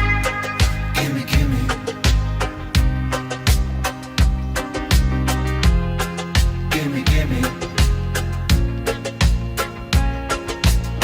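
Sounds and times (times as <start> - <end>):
background music with beat and bass: 0.0 - 11.0.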